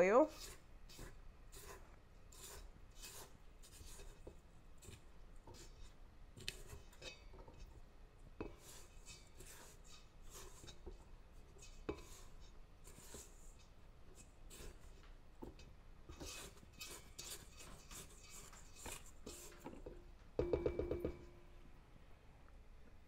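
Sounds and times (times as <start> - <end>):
spatula scraping metal bowl: 0.0 - 7.8, 8.4 - 21.4.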